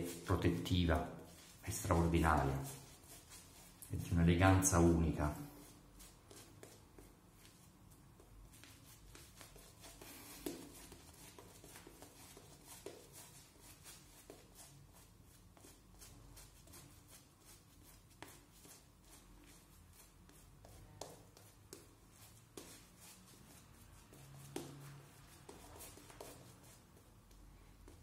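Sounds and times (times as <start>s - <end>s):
shaving brush strokes on face: 0.0s - 7.7s, 8.5s - 20.8s, 22.2s - 27.0s.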